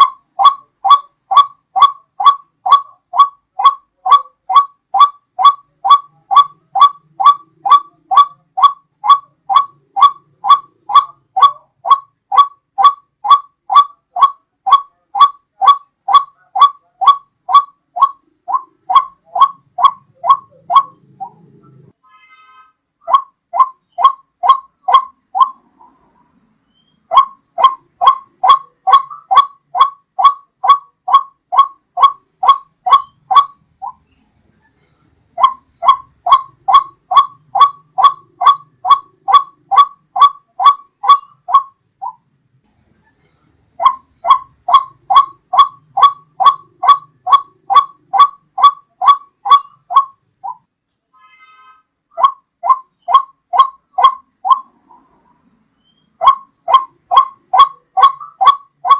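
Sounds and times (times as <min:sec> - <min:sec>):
waterhen calling kwak: 0:00.0 - 0:34.2, 0:35.3 - 0:42.2, 0:43.8 - 0:58.9.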